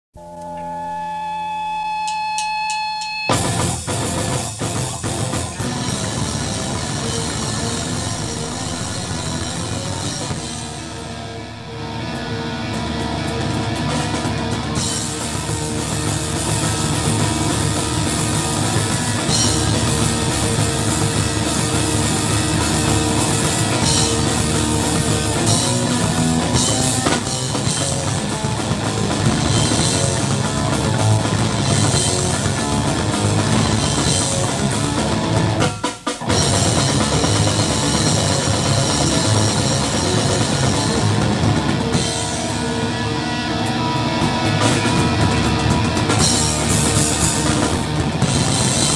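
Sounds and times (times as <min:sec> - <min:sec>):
punk rock band playing: 0:02.0 - 0:48.9.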